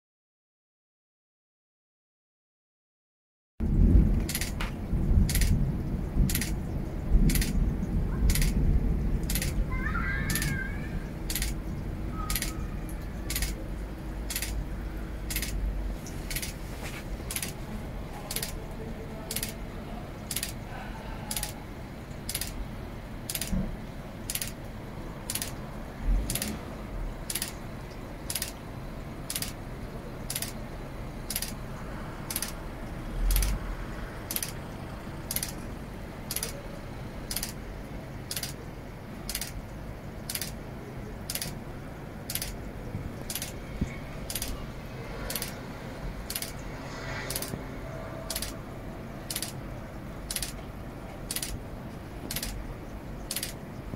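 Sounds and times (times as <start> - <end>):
steady ticking clicks: 4.1 - 16.6, 17.2 - 17.6, 18.3 - 18.6, 19.3 - 20.7, 21.3 - 33.6, 34.2 - 47.6, 48.3 - 53.9.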